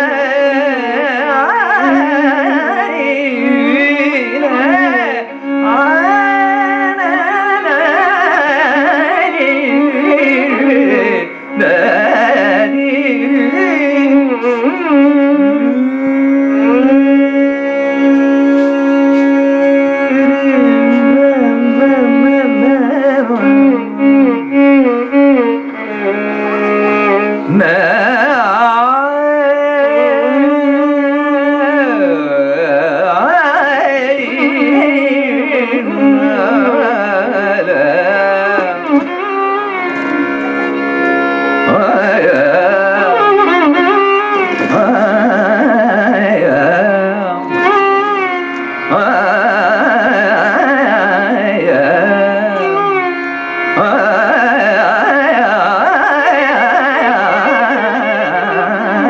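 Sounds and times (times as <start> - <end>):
person singing: 0.0 - 59.0
violin melody: 0.0 - 59.0.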